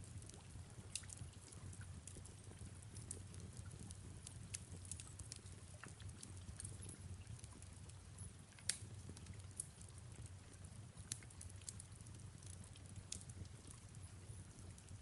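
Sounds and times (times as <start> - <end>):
faint low rumble: 0.0 - 15.0
wood fire crackling: 0.0 - 15.0.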